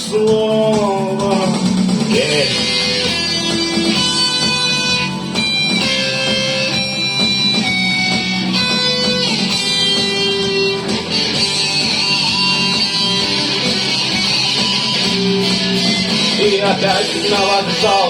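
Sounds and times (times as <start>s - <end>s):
guitar melody of held notes: 0.0s - 18.0s
strummed guitar accompaniment: 0.0s - 18.0s.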